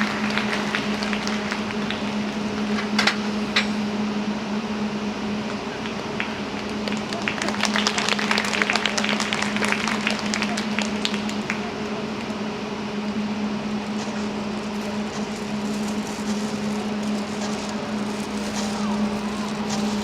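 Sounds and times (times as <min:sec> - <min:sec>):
audience clapping: 0:00.0 - 0:03.2, 0:05.5 - 0:12.4, 0:13.8 - 0:20.0
steady low hum: 0:00.0 - 0:20.0.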